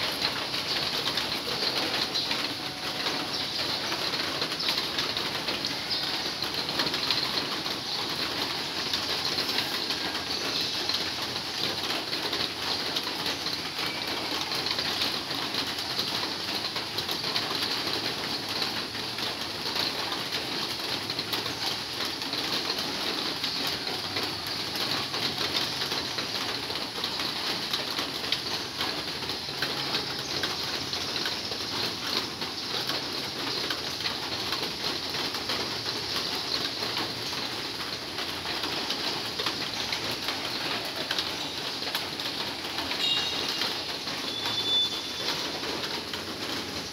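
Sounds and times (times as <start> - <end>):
heavy rain on a metal roof: 0.0 - 46.9.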